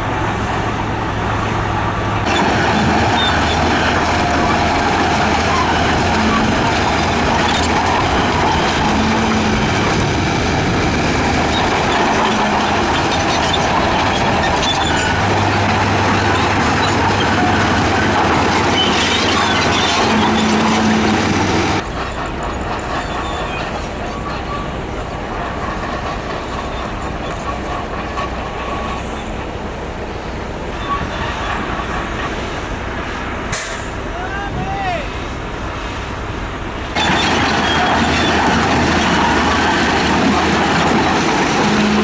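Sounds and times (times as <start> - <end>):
diesel construction machinery: 0.0 - 42.0.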